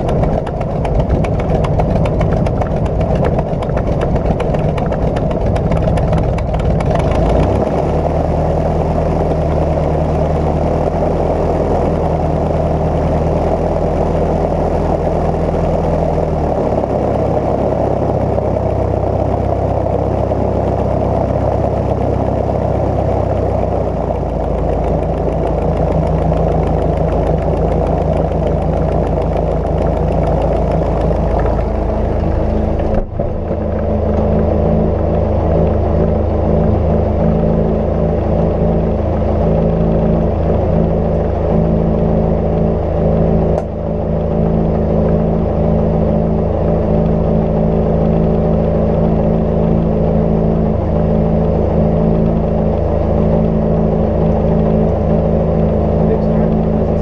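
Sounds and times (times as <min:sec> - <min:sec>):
light aircraft engine humming: 0:00.0 - 0:57.0.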